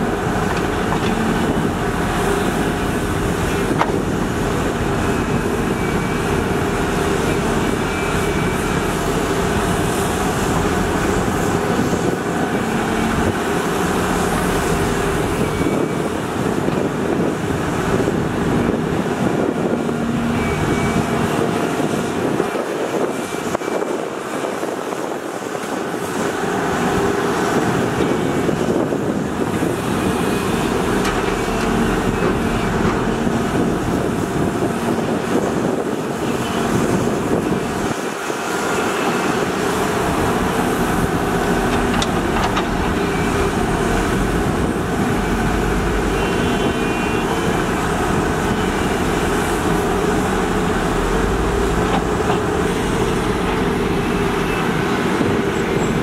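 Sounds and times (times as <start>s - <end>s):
excavator engine rumbling: 0.0s - 56.0s.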